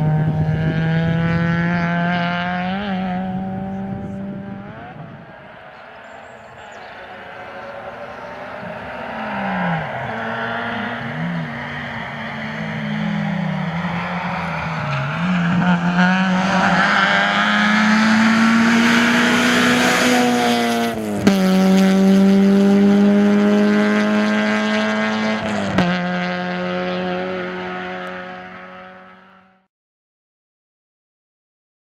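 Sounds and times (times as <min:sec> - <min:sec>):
rally car engine at high revs: 0:00.0 - 0:29.6.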